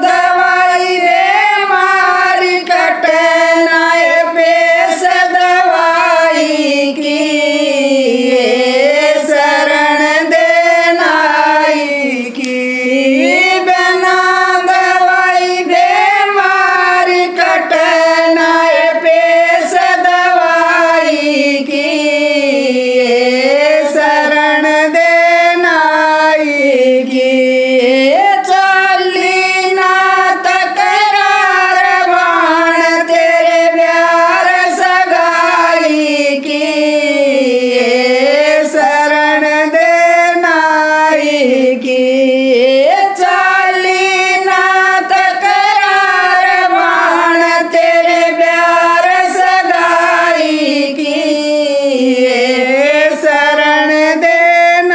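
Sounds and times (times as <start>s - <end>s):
women singing unaccompanied: 0.0s - 54.9s.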